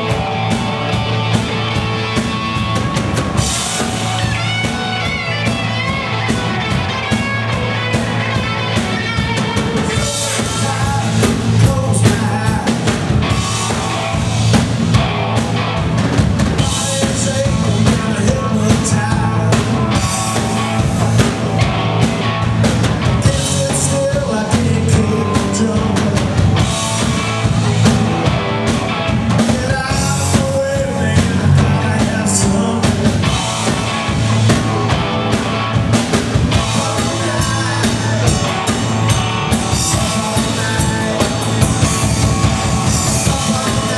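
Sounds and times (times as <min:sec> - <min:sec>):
bass guitar: 0:00.0 - 0:43.9
drum kit beat: 0:00.0 - 0:43.9
electric guitars: 0:00.0 - 0:43.9.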